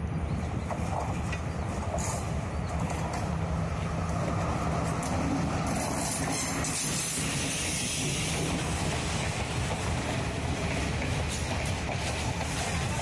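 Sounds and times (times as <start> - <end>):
train engine hum: 0.0 - 13.0
wheels rumbling on rails: 0.0 - 13.0.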